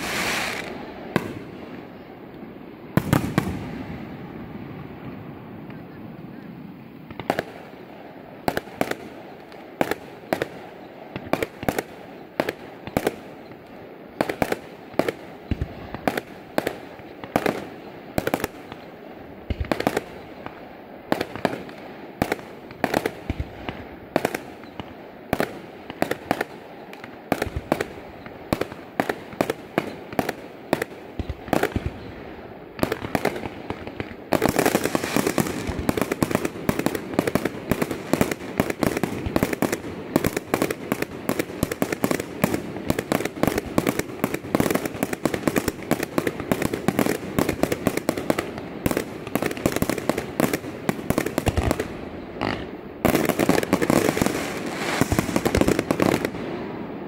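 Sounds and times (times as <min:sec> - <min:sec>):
aerial fireworks bursting: 0:00.0 - 0:02.1, 0:02.8 - 0:07.8, 0:08.4 - 0:57.0.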